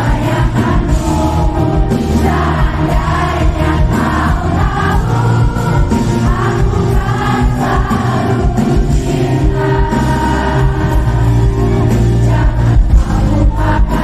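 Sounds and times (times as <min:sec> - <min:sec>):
live band with heavy bass: 0:00.0 - 0:14.0
singing voices: 0:00.0 - 0:14.0.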